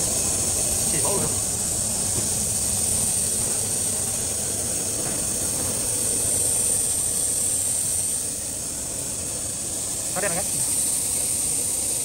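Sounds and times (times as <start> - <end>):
machinery hiss: 0.0 - 12.0.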